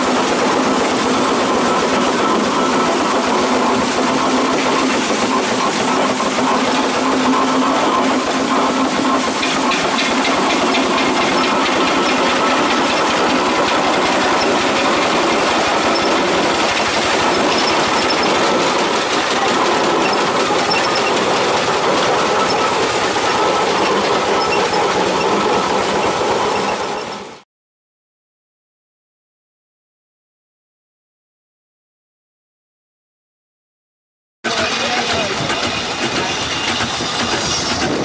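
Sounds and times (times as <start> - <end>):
steam hiss: 0.0 - 27.3, 34.5 - 38.0
steam roller clattering: 0.0 - 27.4, 34.5 - 38.0.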